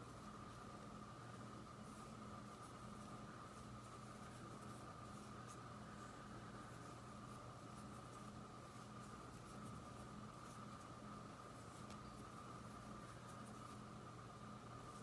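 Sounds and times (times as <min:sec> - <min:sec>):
cord rustling and scratching: 0:00.0 - 0:14.0
faint steady hum: 0:00.0 - 0:15.0.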